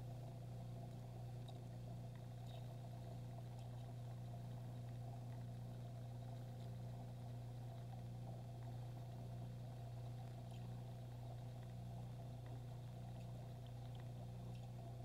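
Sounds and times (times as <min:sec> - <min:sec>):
faint ticks: 0:00.0 - 0:15.0
low electrical hum: 0:00.0 - 0:15.0.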